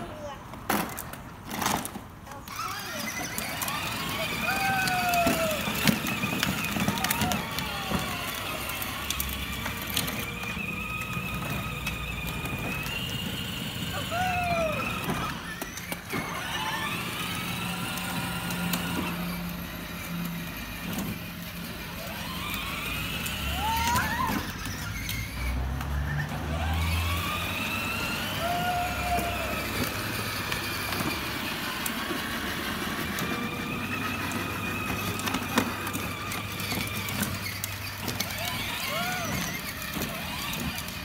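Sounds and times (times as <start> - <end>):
electric motors whining: 2.4 - 41.0.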